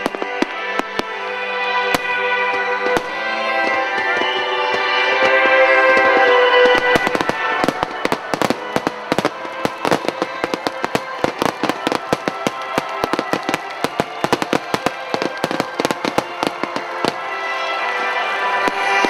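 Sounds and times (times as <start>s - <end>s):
background music: 0.0s - 19.0s
fireworks bursts and crackling: 0.0s - 19.0s.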